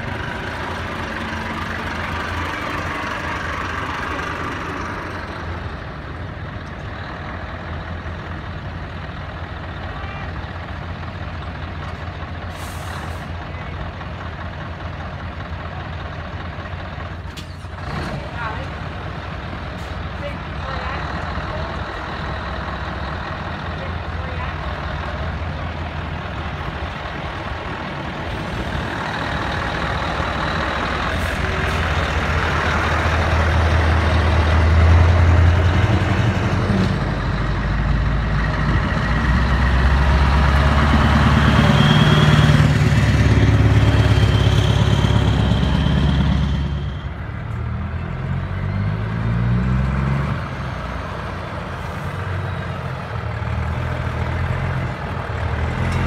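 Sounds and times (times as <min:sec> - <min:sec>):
truck diesel engines passing: 0:00.0 - 0:56.0.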